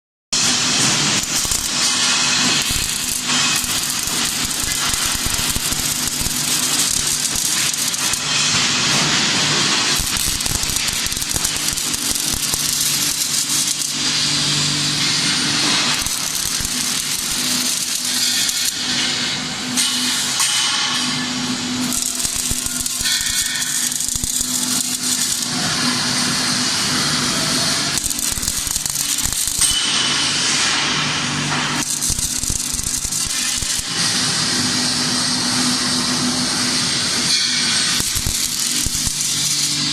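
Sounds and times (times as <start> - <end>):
welding arc crackling: 0.4 - 39.9.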